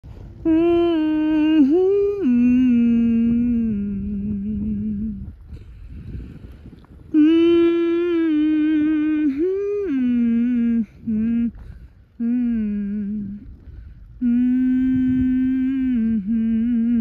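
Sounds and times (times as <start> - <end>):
person humming: 0.4 - 5.7, 7.1 - 17.0.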